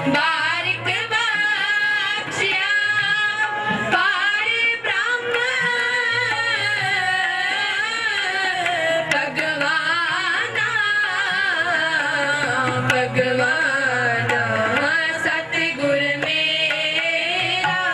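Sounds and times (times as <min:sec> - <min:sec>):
harmonium: 0:00.0 - 0:17.9
tabla strokes: 0:00.0 - 0:17.9.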